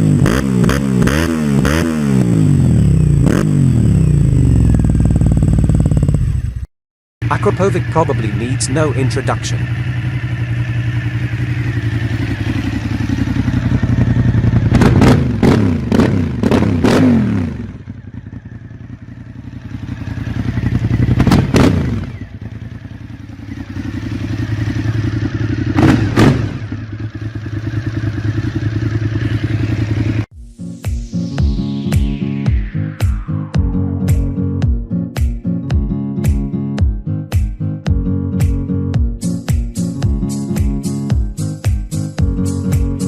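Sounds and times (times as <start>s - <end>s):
motorcycle engine idling and revving: 0.0s - 30.4s, 31.0s - 43.0s.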